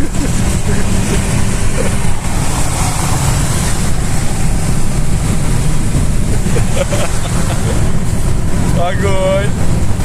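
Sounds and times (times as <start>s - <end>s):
car interior road rumble: 0.0s - 10.0s.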